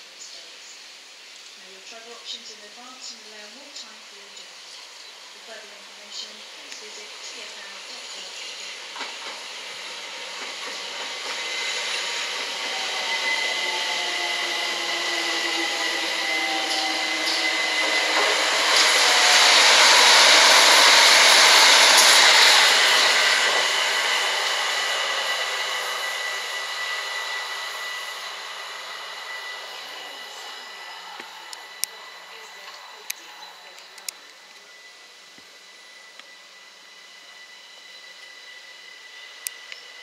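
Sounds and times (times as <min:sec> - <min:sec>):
distant electric train motor whine: 0:00.0 - 0:40.0
electric train passing at speed: 0:00.0 - 0:40.0.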